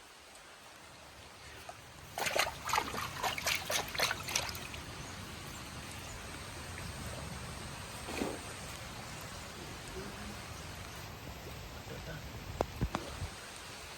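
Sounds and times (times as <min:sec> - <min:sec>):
water splashing and dripping: 0:00.0 - 0:11.6.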